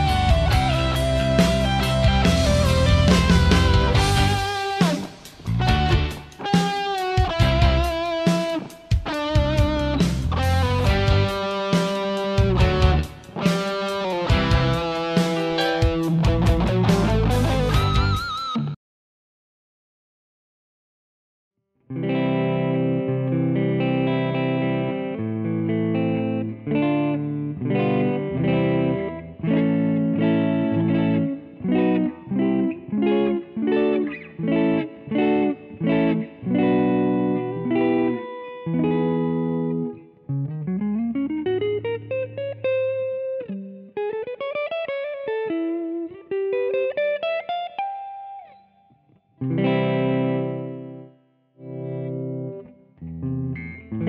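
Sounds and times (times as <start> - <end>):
clean electric guitar: 0.0 - 18.8, 21.8 - 54.0.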